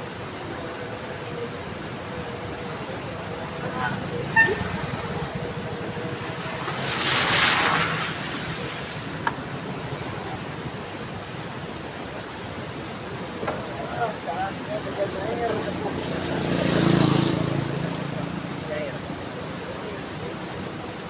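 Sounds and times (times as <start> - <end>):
heavy rain falling: 0.0 - 17.3.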